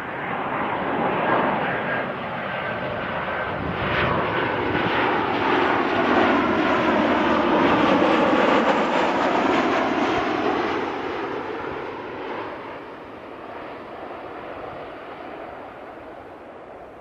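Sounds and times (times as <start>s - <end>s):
jet engine passing low: 0.0s - 17.0s.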